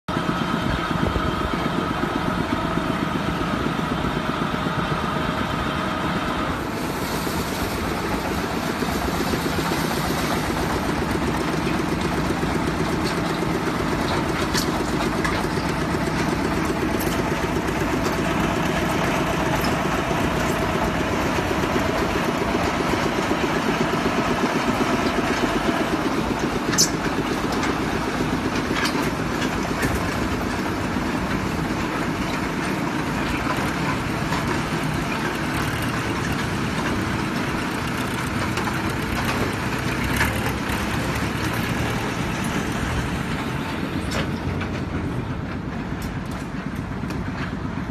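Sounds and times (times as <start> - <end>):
concrete mixer pump running: 0.1 - 47.9.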